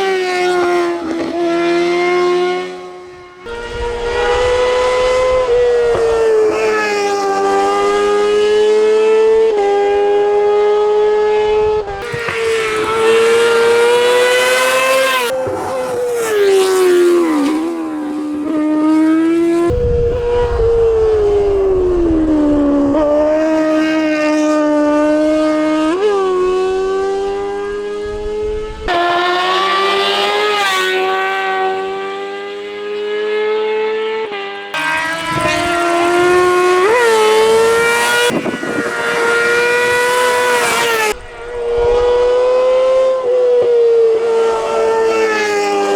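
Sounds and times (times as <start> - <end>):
race car engine at high revs: 0.0 - 45.9.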